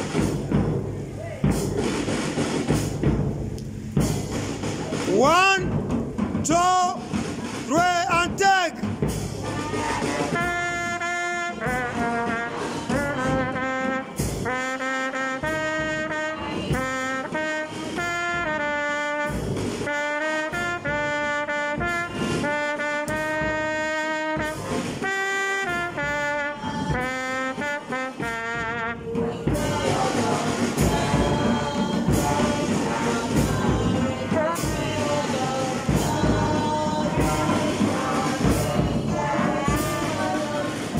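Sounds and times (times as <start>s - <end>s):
brass band playing held chords: 0.0s - 40.9s
drum strokes: 0.0s - 40.9s.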